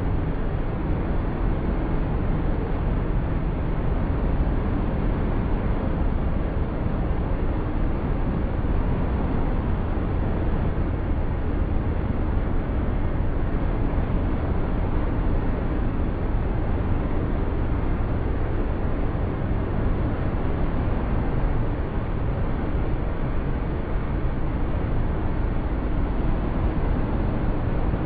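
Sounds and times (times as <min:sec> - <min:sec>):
wind and road noise inside car: 0:00.0 - 0:28.0.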